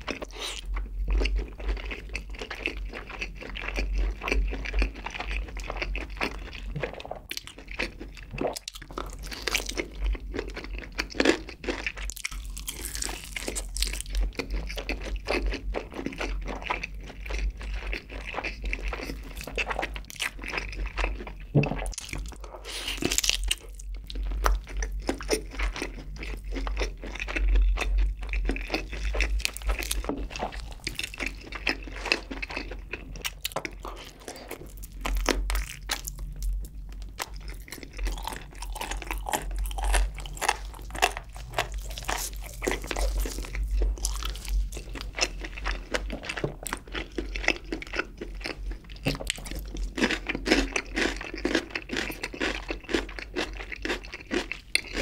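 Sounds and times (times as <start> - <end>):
chewing with wet smacks: 0.0 - 55.0.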